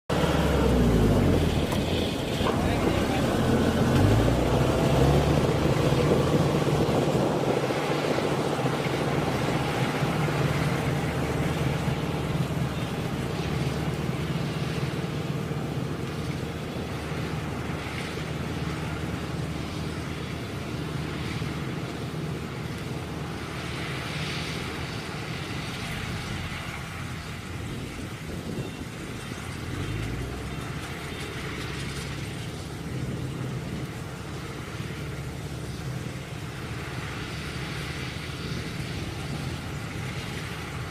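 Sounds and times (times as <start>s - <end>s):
combine harvester engine running: 0.1s - 40.9s.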